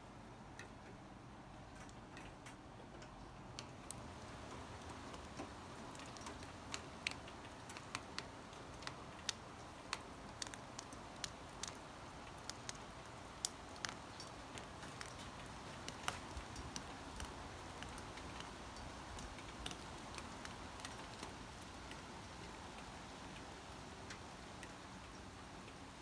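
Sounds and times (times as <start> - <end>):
soft rain hiss: 0.0 - 26.0
raindrops tapping: 1.7 - 26.0.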